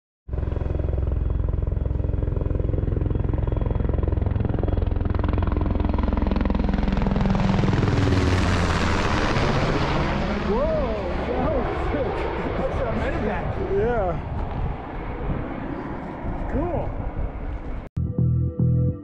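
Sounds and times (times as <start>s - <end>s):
helicopter rotor beating: 0.3s - 17.9s
low engine drone: 0.3s - 19.0s.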